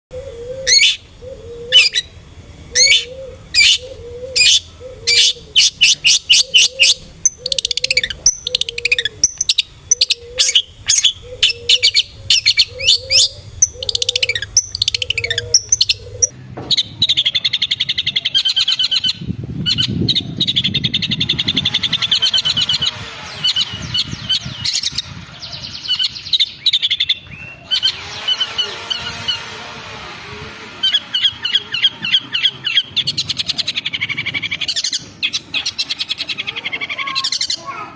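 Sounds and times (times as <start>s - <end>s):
bird chattering trill: 0.1s - 30.2s, 30.8s - 37.9s
bird sharp high calls: 0.1s - 37.9s.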